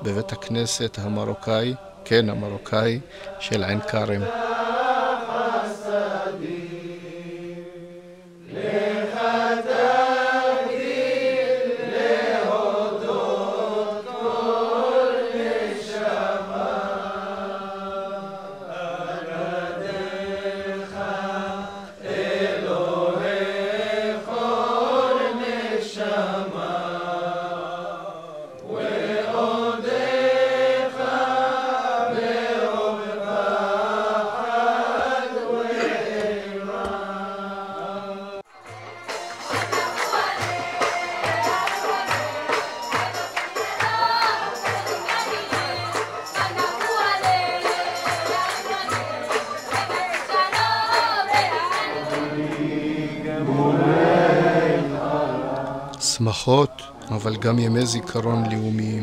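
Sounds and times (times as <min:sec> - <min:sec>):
men chanting: 0:00.0 - 0:38.4, 0:39.3 - 0:59.0.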